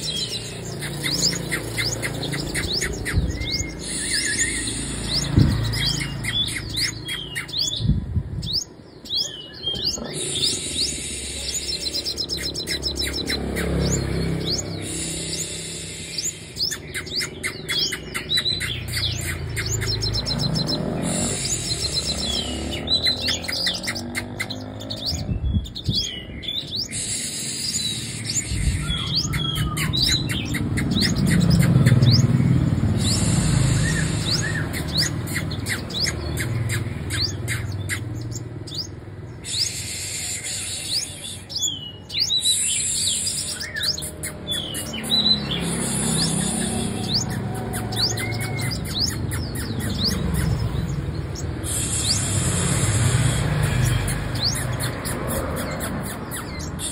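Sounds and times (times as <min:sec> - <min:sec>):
bird chirping and trilling: 0:00.0 - 0:56.9.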